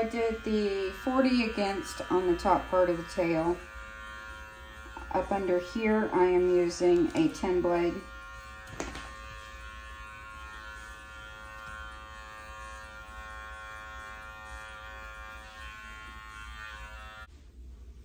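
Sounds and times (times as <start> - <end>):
electric clippers humming: 0.0 - 17.3.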